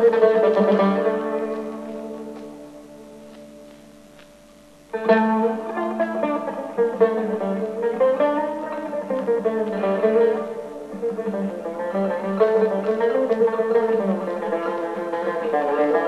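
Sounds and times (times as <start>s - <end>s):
plucked lute melody: 0.0s - 16.0s.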